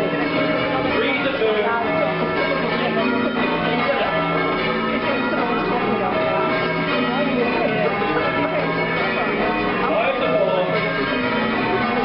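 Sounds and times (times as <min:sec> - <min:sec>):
church tower bells ringing: 0:00.0 - 0:12.0.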